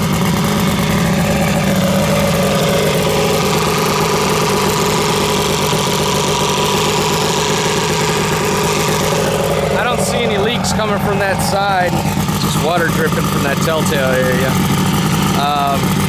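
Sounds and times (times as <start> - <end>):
outboard engine idling: 0.0 - 16.0.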